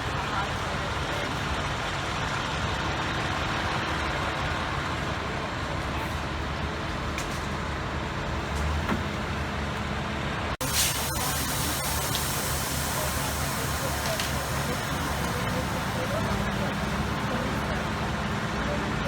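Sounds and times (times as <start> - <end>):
large vehicle engine idling: 0.0 - 19.0.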